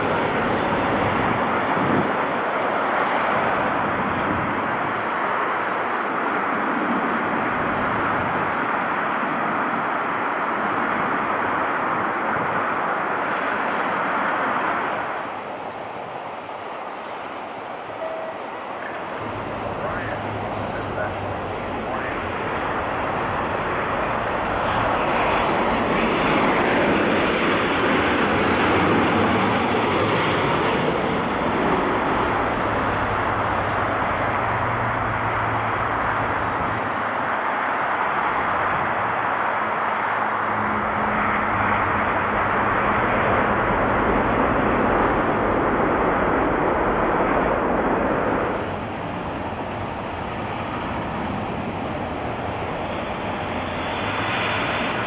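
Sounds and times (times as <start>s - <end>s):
airliner engines roaring: 0.0s - 55.0s.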